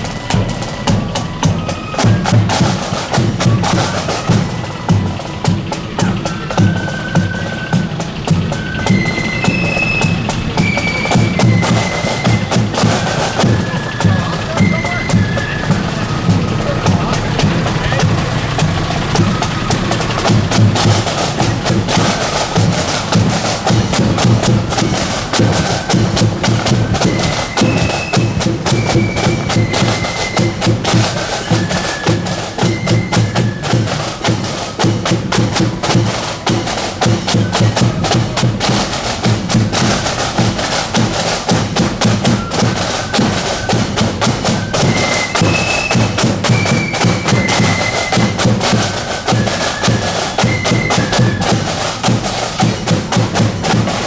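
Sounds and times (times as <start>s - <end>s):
flutes playing a melody: 0.0s - 54.0s
snare drums: 0.0s - 54.0s.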